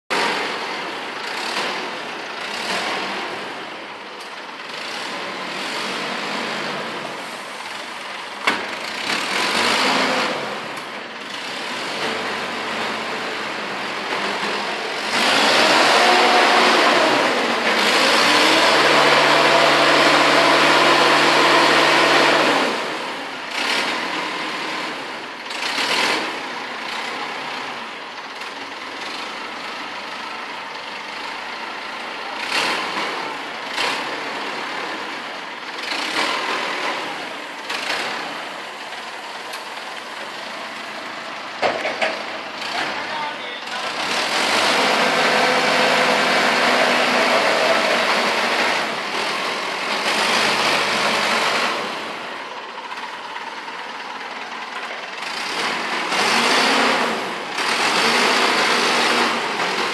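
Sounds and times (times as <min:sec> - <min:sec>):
forklift running: 0:00.1 - 0:59.9.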